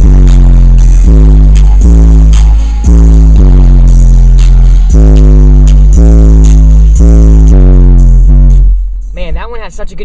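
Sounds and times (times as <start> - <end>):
deep sliding bass notes: 0.0 - 9.4
rap beat on car stereo: 0.0 - 10.0.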